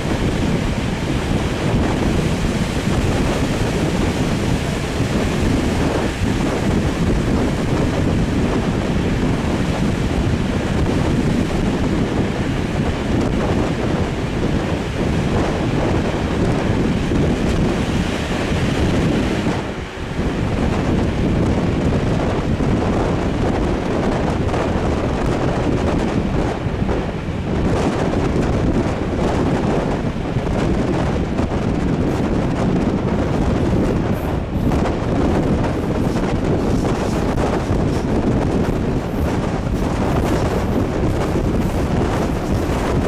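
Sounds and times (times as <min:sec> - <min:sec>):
train running on track: 0:00.0 - 0:43.0
wind buffeting a microphone: 0:00.0 - 0:43.0.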